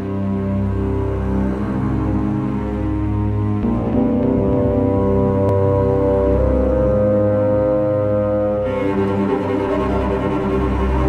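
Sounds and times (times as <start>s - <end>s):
sustained low music chords: 0.0s - 11.0s.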